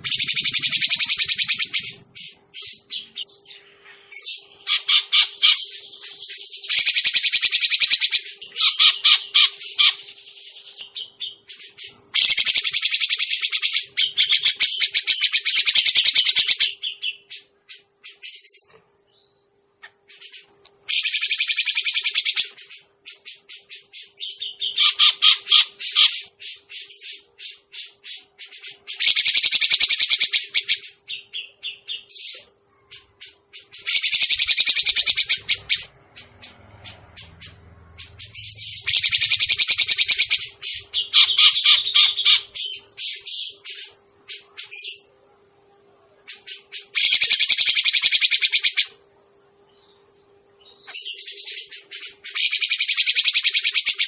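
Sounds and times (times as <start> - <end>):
bird harsh chattering calls: 0.0 - 18.7, 19.8 - 45.1, 46.3 - 49.0, 50.8 - 54.0.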